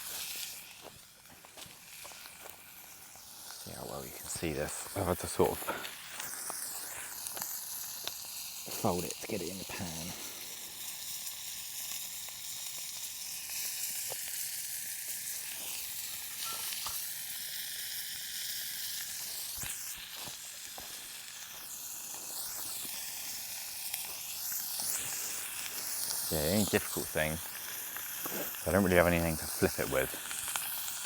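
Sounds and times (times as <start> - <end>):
sharp pops from frying: 0.0 - 31.0
steak sizzling in a pan: 0.0 - 31.0.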